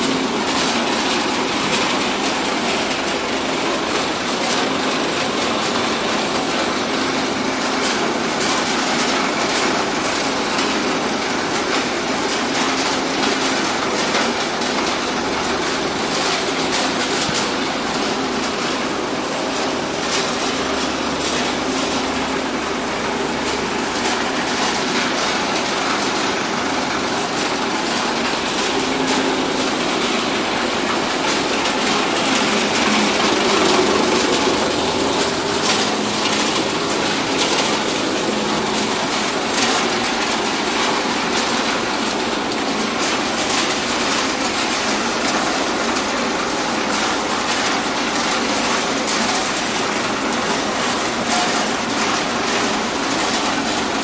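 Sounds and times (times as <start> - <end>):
machinery rattling and clicking: 0.0 - 54.0.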